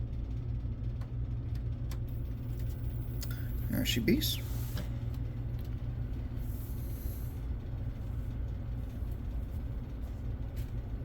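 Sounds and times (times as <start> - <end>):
computer fan hum: 0.0 - 11.0.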